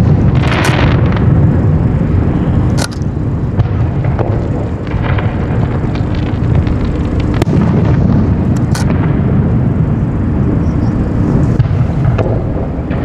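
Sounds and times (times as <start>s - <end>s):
fireworks booming: 0.0s - 13.0s
fireworks cracks and crackle: 0.0s - 13.0s.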